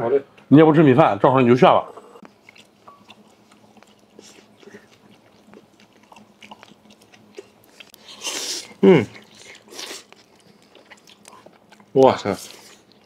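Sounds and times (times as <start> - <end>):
faint steady hum: 0.0 - 13.0
person chewing crunchy food: 2.2 - 13.0.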